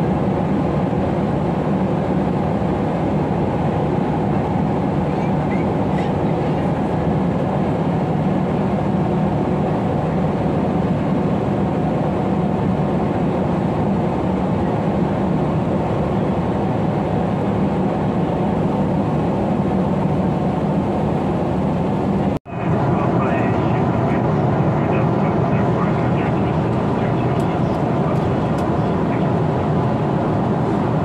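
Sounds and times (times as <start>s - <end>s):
airliner cabin drone with hiss: 0.0s - 31.0s.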